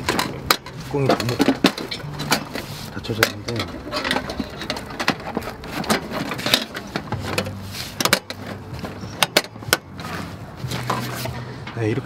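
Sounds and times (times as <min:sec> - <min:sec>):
metal grill tools clattering: 0:00.0 - 0:12.0.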